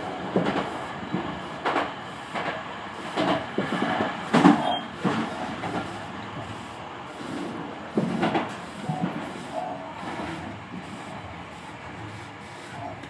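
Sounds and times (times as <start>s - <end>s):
electric train running: 0.0s - 13.0s
wheels clacking over rail joints: 0.0s - 13.0s.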